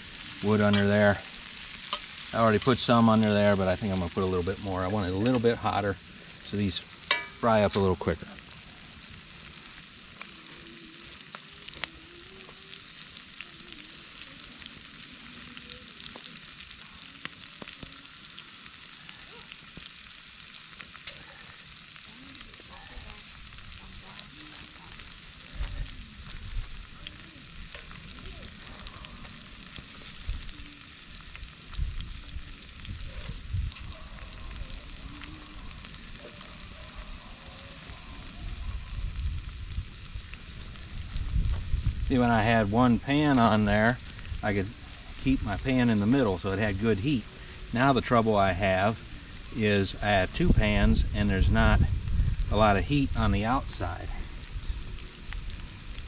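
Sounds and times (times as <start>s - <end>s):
food sizzling in oil: 0.0s - 56.0s.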